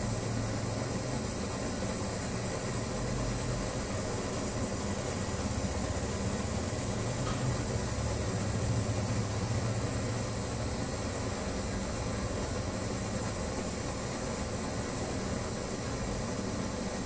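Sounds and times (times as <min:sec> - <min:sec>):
pressure stove burner hissing: 0:00.0 - 0:17.0.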